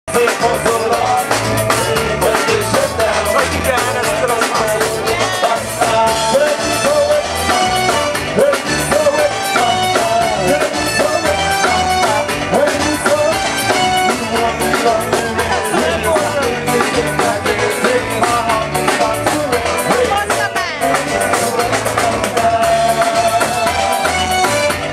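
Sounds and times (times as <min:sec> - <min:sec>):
live band playing dance music: 0:00.0 - 0:24.9.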